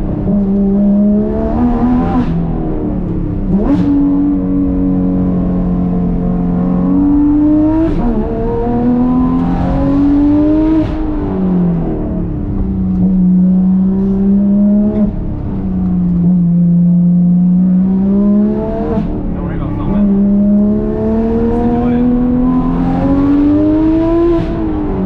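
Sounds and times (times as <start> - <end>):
sports car engine accelerating: 0.0 - 25.0.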